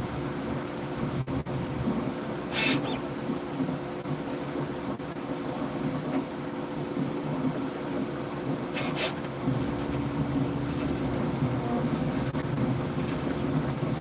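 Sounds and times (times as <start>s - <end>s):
printer motors and fans humming: 0.0s - 14.0s.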